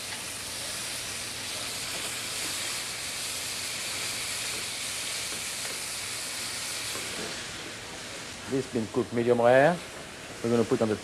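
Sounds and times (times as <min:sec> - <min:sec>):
meat sizzling in a hot pan: 0:00.0 - 0:11.0.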